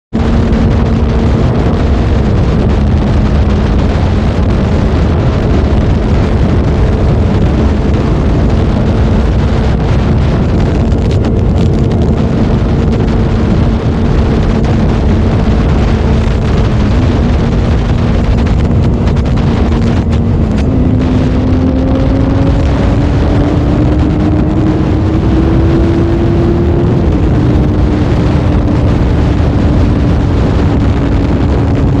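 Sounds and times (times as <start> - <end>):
motorcycle engine running: 0.1 - 32.0
wind rush on microphone: 0.1 - 32.0.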